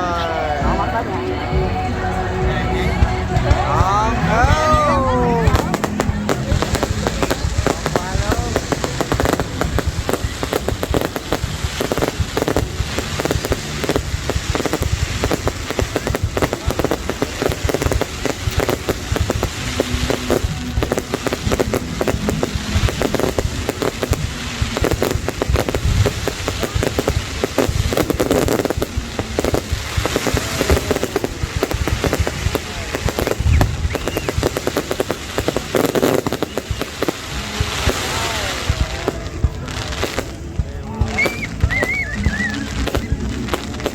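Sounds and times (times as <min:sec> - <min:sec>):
fireworks crackling and banging: 0:00.0 - 0:43.9.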